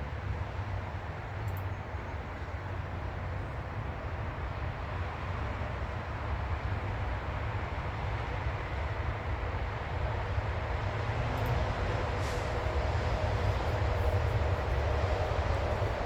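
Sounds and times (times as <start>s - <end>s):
low rumbling outdoor noise: 0.0s - 16.0s.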